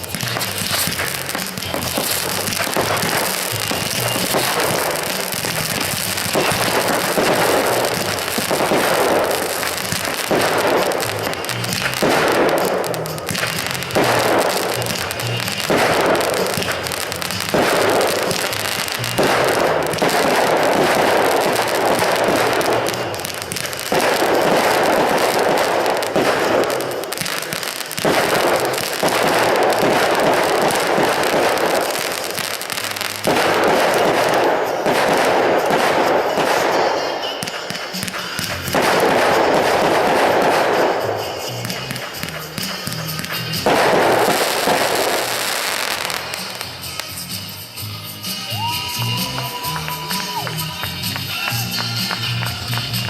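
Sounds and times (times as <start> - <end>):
fireworks crackling: 0.0 - 53.0
music playing: 0.0 - 53.0.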